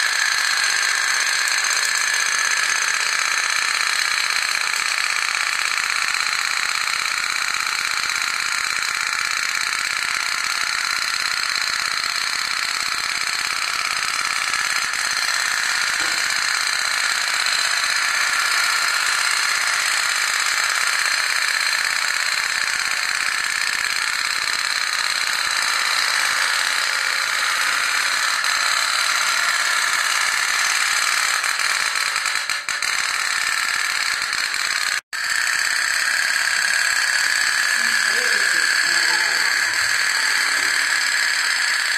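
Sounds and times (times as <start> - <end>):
steam boat toy rattling: 0.0 - 41.9.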